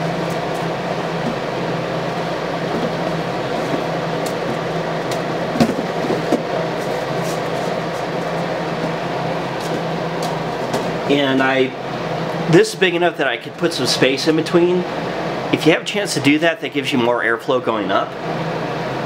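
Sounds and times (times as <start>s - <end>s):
fan humming: 0.0s - 19.0s.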